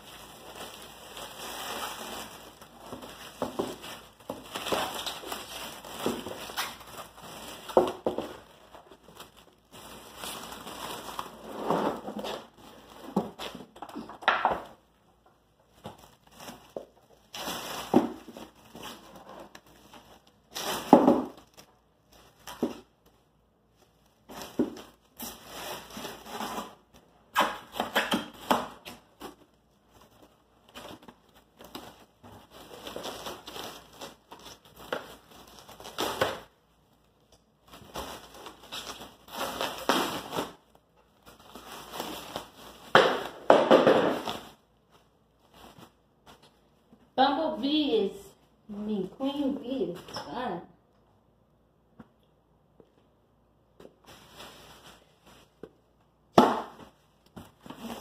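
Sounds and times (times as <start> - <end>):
plastic stretch wrap crackling: 0.0 - 47.6, 56.8 - 58.0.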